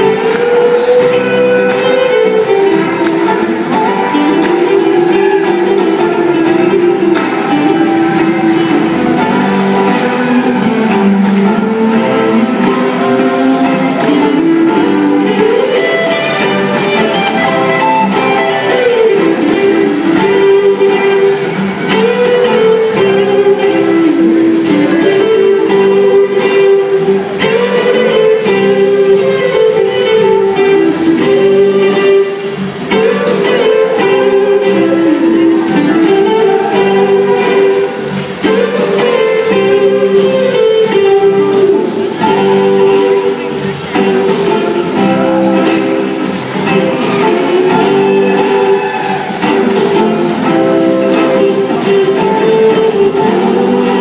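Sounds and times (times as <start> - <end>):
electric guitar lead line: 0.0 - 54.0
live rock band: 0.0 - 54.0.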